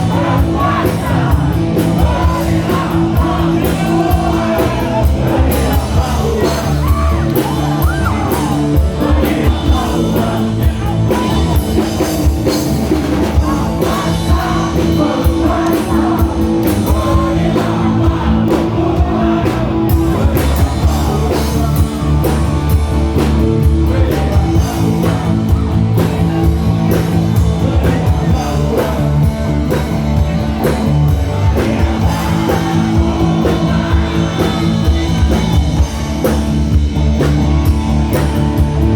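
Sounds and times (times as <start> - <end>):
person singing: 0.0 - 12.6, 13.2 - 36.4
live rock band playing: 0.0 - 38.9.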